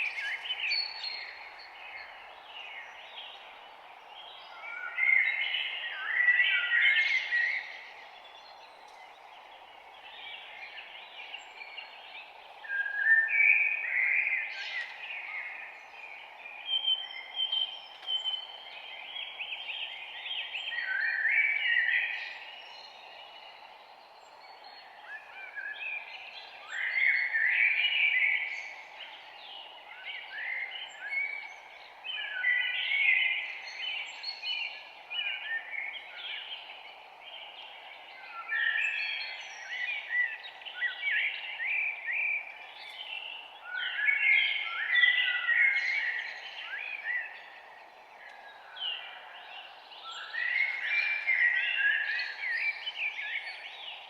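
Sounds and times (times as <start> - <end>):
forest ambience hiss: 0.0 - 54.0
songbirds chirping: 0.0 - 54.0.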